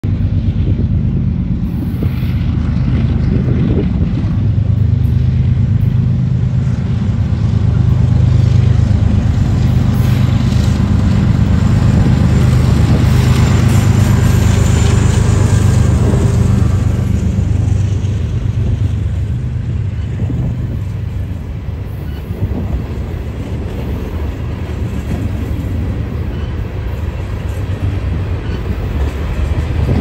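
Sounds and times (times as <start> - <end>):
freight cars rolling by: 0.0 - 30.0
locomotive engine droning: 0.0 - 30.0.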